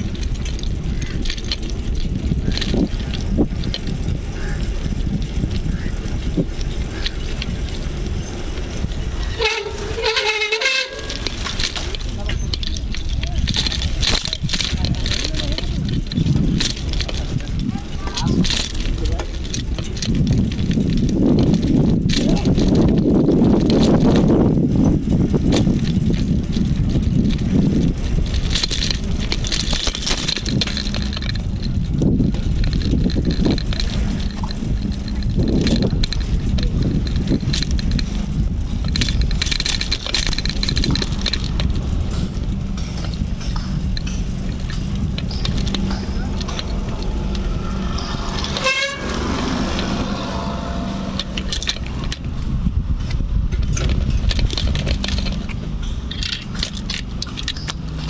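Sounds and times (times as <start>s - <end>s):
bicycle clicks and rattles: 0.0s - 58.0s
tyres rumbling on concrete: 0.0s - 58.0s
wind buffeting microphone: 0.0s - 58.0s.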